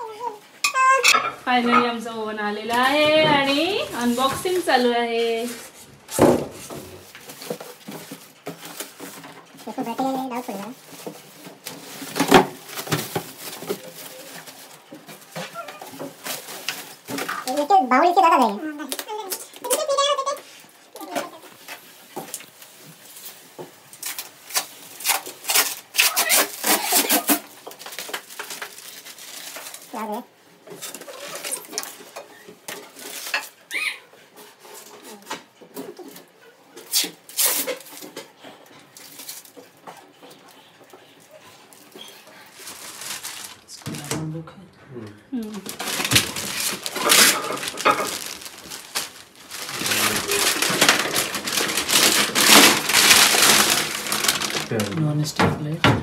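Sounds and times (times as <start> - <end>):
plastic bag crinkling: 0.0 - 5.9, 6.5 - 35.3, 38.9 - 40.1, 41.2 - 44.3, 45.4 - 55.4
plastic film and paper crackling: 0.0 - 44.5, 45.4 - 55.8.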